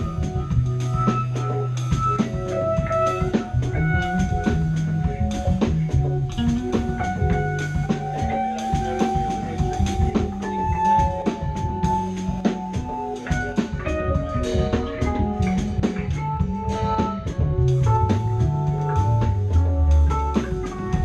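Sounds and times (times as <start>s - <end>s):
bass guitar line: 0.0s - 21.0s
drum kit: 0.0s - 21.0s
electric guitar: 0.0s - 21.0s.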